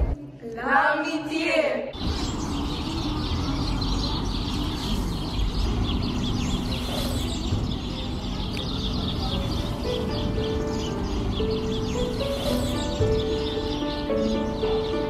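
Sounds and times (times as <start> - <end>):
small birds chirping: 2.0 - 15.0.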